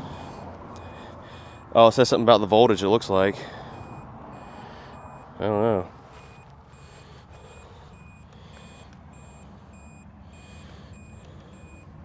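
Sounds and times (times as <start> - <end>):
short high alarm beeps: 0.0 - 12.0.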